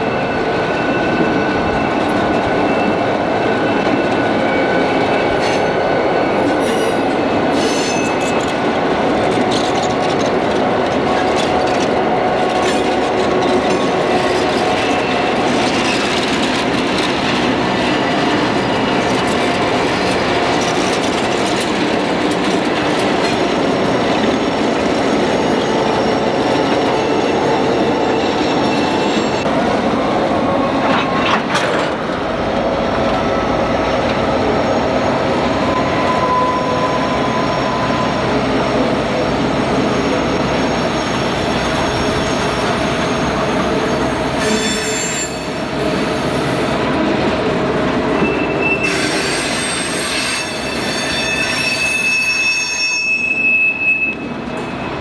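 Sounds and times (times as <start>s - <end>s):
freight cars rolling on rails: 0.0s - 55.0s.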